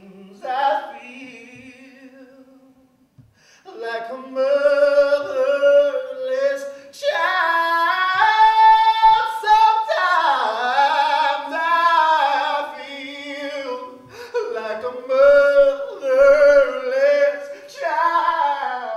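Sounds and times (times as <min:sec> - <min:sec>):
person singing unaccompanied: 0:00.0 - 0:02.8, 0:03.6 - 0:18.9.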